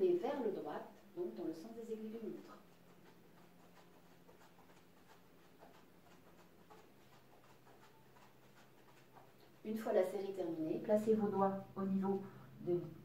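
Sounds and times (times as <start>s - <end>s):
faint low hum: 0.0s - 13.0s
soft ticks and scuffs: 0.2s - 12.2s.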